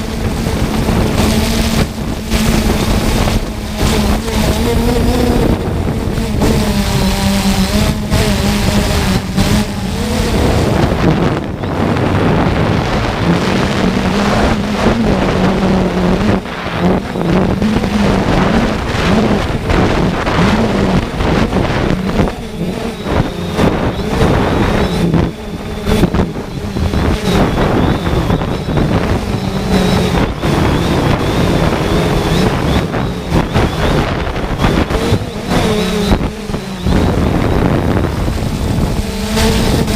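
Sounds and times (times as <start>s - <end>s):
drone propellers whirring: 0.0s - 39.9s
wind rushing over microphone: 0.0s - 39.9s.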